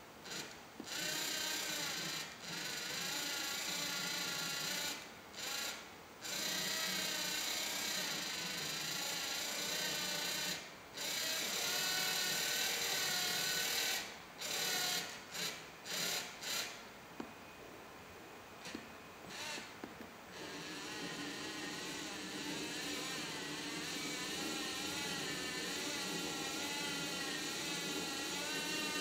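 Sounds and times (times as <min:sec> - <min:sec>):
small motor whirring through plastic gears: 0:00.2 - 0:16.8, 0:18.6 - 0:29.0.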